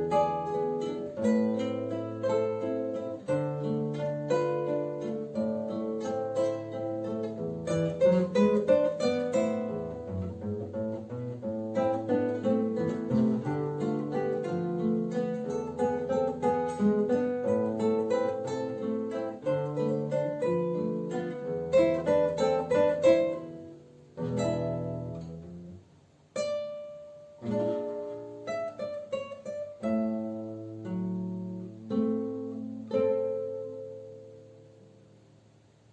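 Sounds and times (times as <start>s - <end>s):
acoustic guitar duet: 0.0s - 35.9s.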